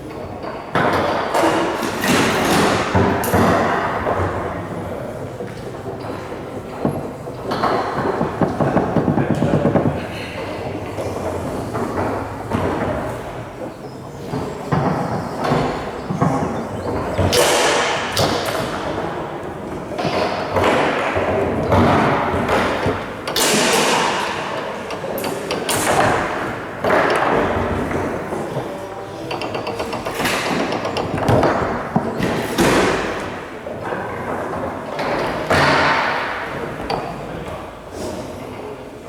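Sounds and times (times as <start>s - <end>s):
foosball rods banging: 0.2s - 37.2s.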